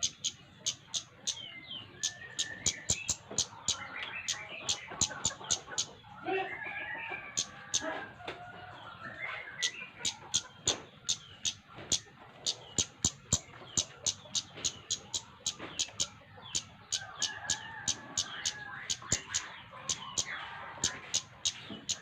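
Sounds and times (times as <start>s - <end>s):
bird calling in rapid ticks: 0.0s - 6.0s, 7.3s - 8.0s, 9.6s - 22.0s.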